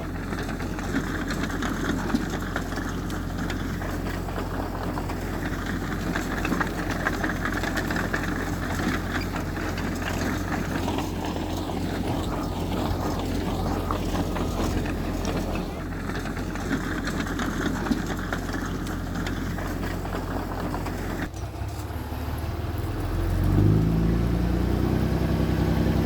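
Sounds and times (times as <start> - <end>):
small clanks and rattles: 0.0 - 22.1
diesel machinery engine drone: 0.0 - 26.0.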